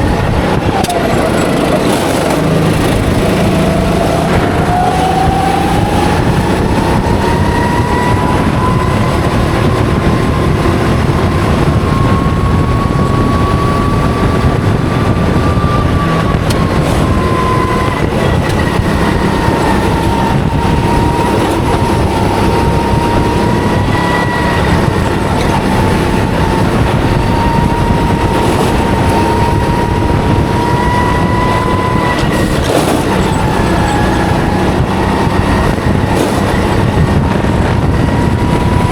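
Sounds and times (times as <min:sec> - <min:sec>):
go-kart engine whine: 0:00.0 - 0:38.9
road and wind noise: 0:00.0 - 0:38.9.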